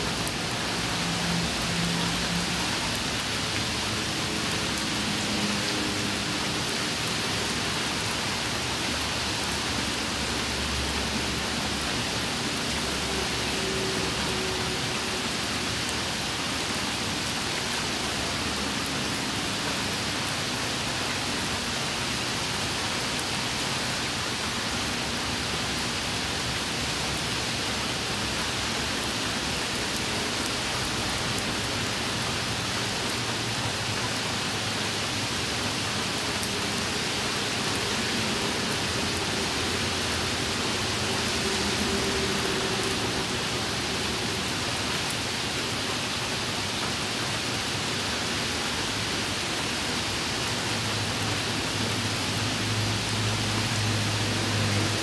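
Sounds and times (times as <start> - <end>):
rain on wet pavement: 0.0 - 55.0.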